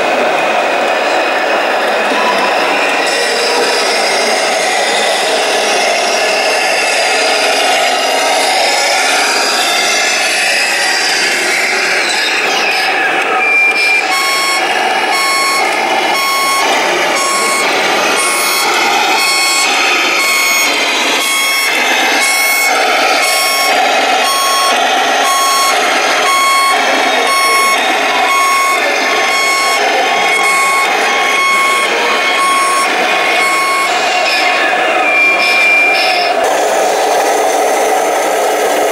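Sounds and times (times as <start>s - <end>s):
model truck running noise: 0.0s - 38.9s
reversing beeper: 2.0s - 38.9s.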